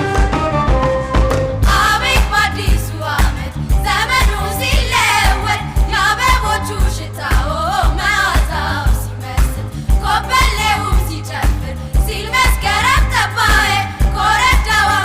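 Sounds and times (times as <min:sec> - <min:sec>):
low kick drum beat: 0:00.0 - 0:15.0.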